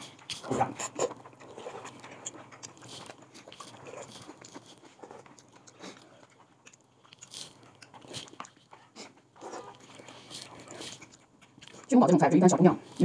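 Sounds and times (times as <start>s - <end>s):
people chewing and crunching food: 0.0s - 13.0s.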